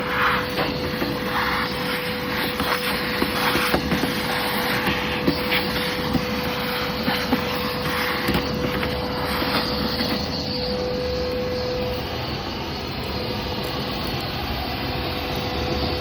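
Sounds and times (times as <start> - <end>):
shop vac whining: 0.0 - 16.0.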